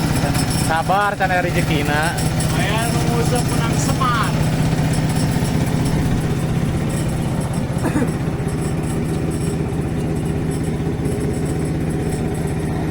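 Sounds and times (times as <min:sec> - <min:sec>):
small engine idling: 0:00.0 - 0:12.9.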